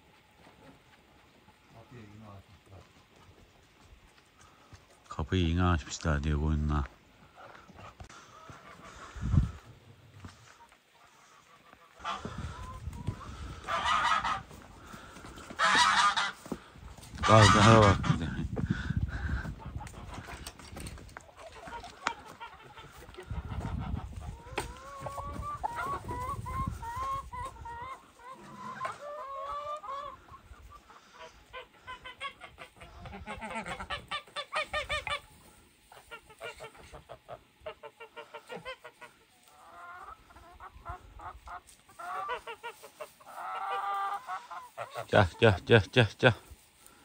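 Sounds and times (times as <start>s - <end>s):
chickens clucking: 0.0s - 47.0s
geese honking: 7.2s - 9.7s, 10.3s - 20.6s, 21.2s - 47.0s.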